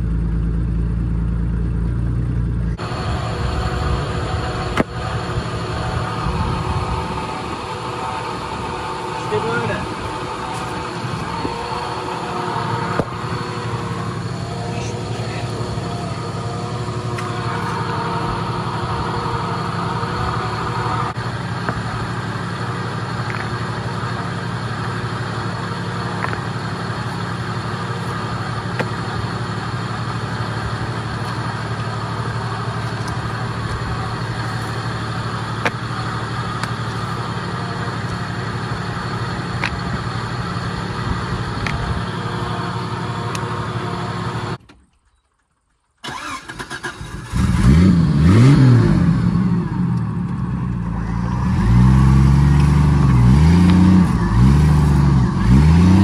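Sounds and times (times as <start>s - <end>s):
off-road vehicle engine idling: 0.0s - 56.0s.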